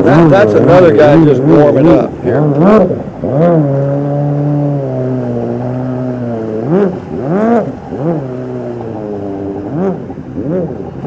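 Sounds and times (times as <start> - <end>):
jet ski engine revving: 0.0 - 11.0.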